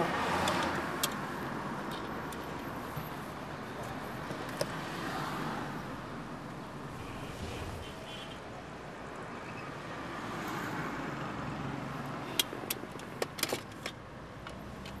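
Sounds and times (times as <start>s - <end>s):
car cabin and traffic hum: 0.0s - 10.3s, 10.9s - 15.0s.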